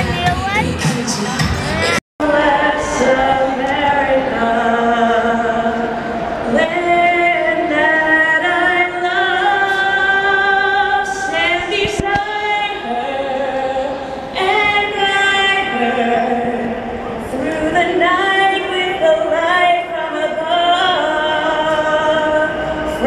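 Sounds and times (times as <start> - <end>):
woman singing over loudspeakers: 0.0 - 23.0.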